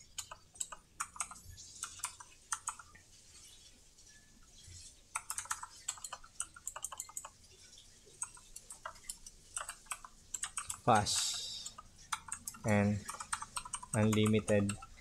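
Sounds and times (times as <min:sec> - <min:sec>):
typing on computer keyboard: 0:00.0 - 0:03.0, 0:05.2 - 0:07.4, 0:08.2 - 0:15.0.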